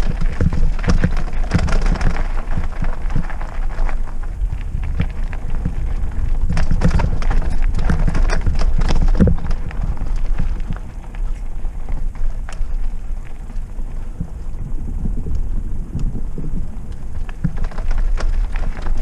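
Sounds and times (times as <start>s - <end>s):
bike rattling and knocking: 0.0s - 19.0s
bike tyre rumble on dirt: 0.0s - 19.0s.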